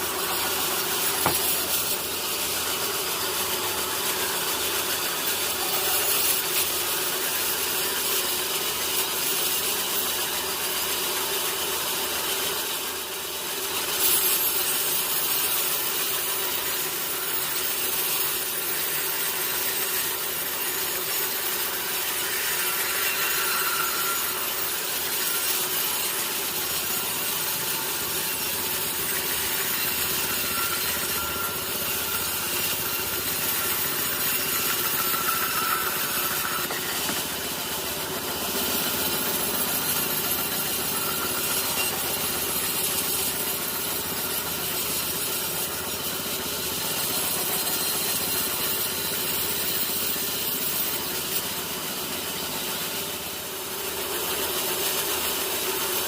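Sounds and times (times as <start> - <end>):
sawmill blade cutting log: 0.0 - 56.0.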